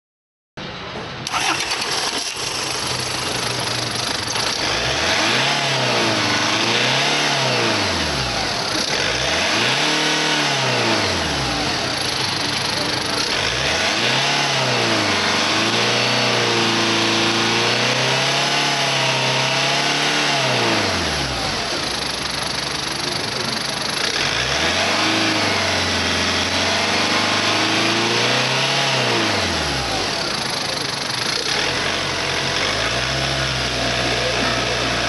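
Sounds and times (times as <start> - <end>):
diesel engine revving: 1.2 - 35.0.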